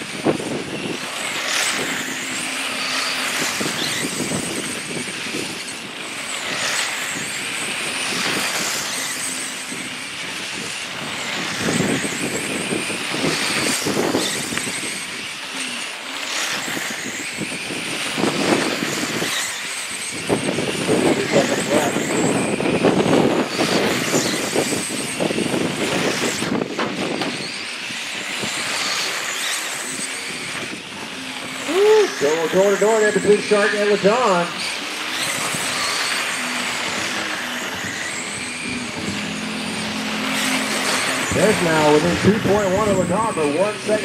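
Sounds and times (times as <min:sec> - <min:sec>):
rc truck motor whine: 0:00.0 - 0:44.0.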